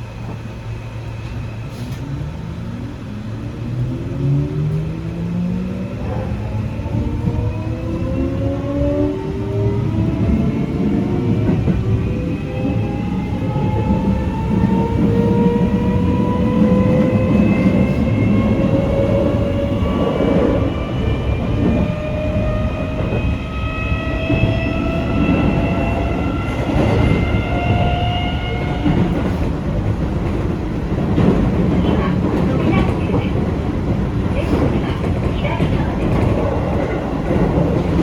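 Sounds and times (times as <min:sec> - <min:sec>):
wheels rumbling on rail: 0:00.0 - 0:38.0.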